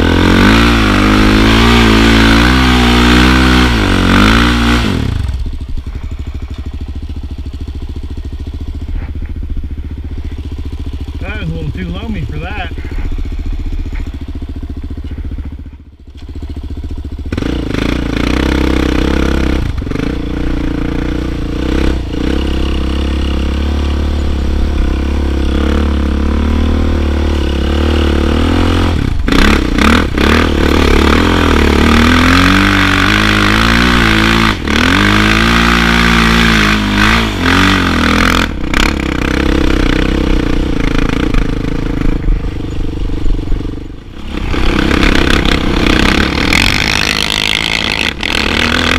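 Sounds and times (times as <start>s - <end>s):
quad bike engine revving: 0.0s - 48.9s.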